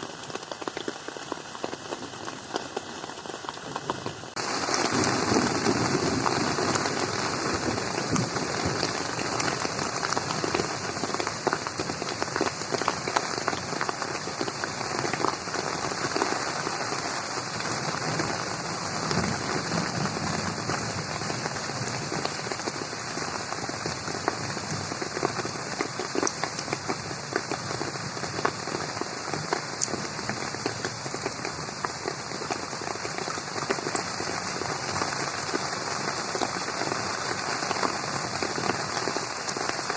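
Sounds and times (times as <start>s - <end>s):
rain falling on a pond: 0.0s - 39.9s
raindrops ticking: 0.0s - 39.9s.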